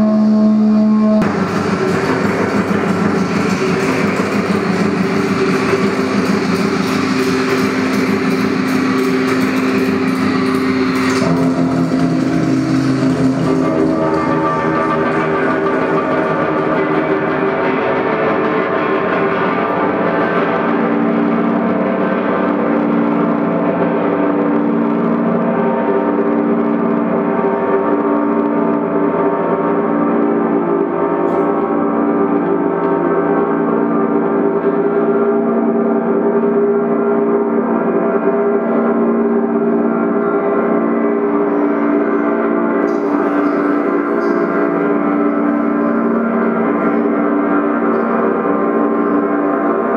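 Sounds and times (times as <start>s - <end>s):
bowed electric guitar drone: 0.0s - 49.9s.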